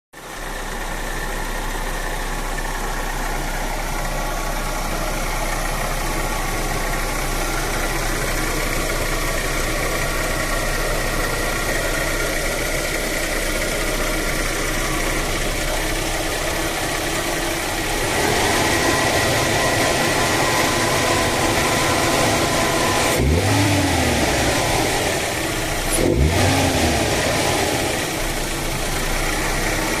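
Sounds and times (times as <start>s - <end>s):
car engine idling and revving: 0.2s - 30.0s.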